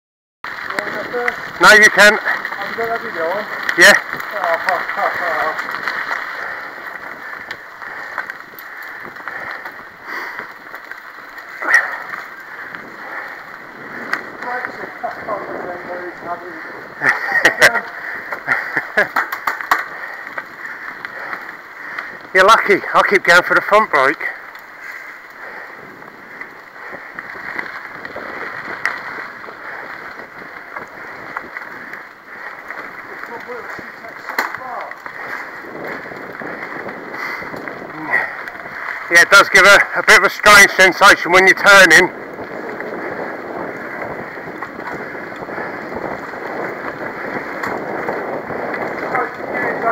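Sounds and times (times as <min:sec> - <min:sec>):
bike rattles and clicks: 0:00.4 - 0:49.9
bike tyre rumble on dirt trail: 0:00.4 - 0:49.9.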